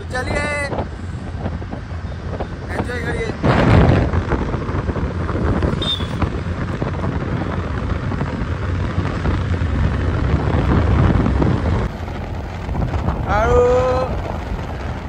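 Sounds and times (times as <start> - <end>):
scooter engine and road noise: 0.0 - 15.0
wind buffeting microphone: 0.0 - 15.0.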